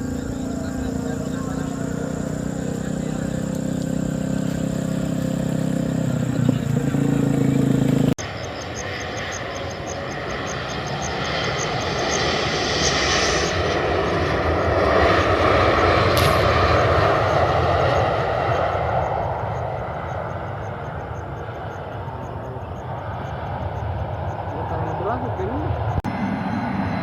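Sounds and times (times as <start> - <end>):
airplane engines passing: 0.0 - 27.0
low engine hum: 0.0 - 27.0.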